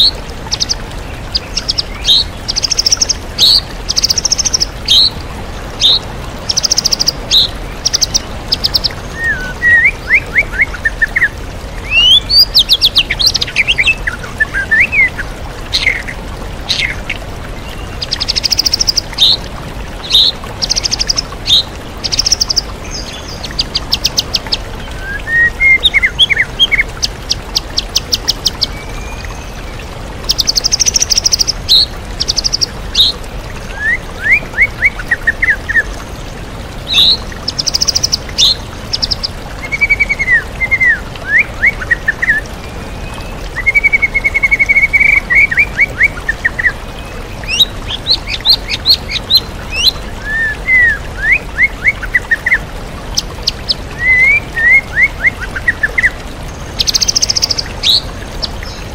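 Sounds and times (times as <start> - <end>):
songbird singing trills and whistles: 0.0 - 5.2, 5.8 - 16.1, 17.7 - 19.4, 20.0 - 29.6, 36.9 - 52.6, 53.2 - 56.2, 56.8 - 58.9
waterfall rushing: 0.0 - 58.9.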